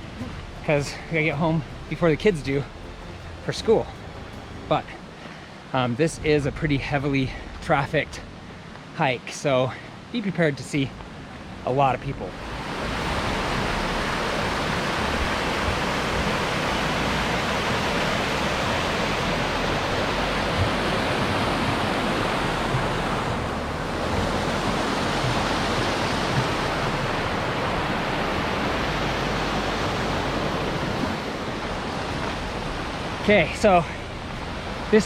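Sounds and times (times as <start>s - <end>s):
irregular low rumble: 0.0s - 8.9s, 10.8s - 35.0s
steady rushing noise: 0.0s - 35.0s.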